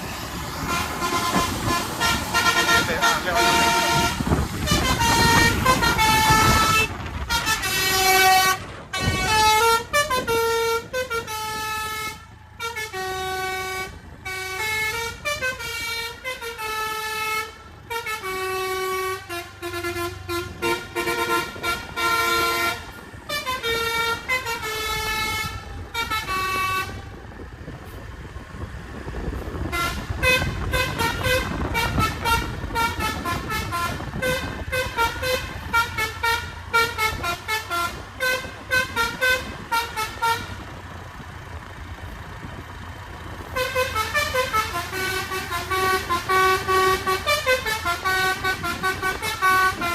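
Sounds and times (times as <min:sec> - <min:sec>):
vehicle noise: 0:00.0 - 0:49.9
multi-tone bus air horn tune: 0:00.1 - 0:28.0, 0:29.2 - 0:41.0, 0:43.4 - 0:49.9.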